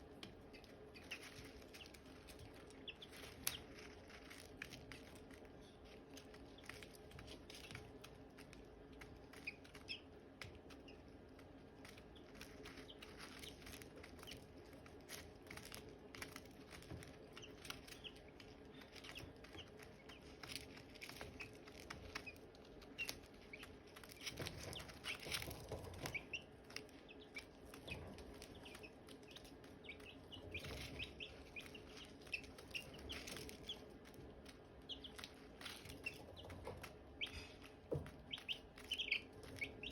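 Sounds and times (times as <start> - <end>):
chicks peeping: 0.0 - 39.9
rustling: 0.0 - 39.9.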